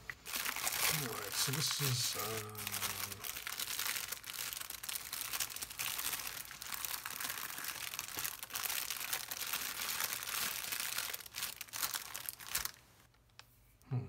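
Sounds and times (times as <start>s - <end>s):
plastic wrap crinkling: 0.0s - 13.4s.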